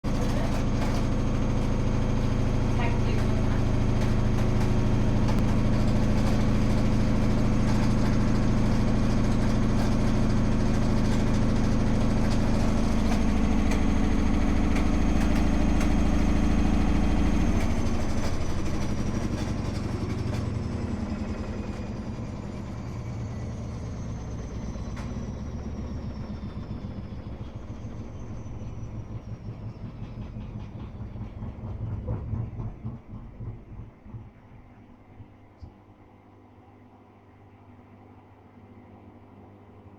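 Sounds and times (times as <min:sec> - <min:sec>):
washing machine spinning: 0:00.0 - 0:36.5.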